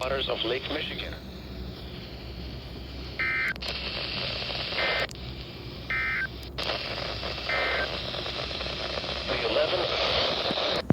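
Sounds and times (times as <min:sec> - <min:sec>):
radio hiss: 0:00.0 - 0:10.9.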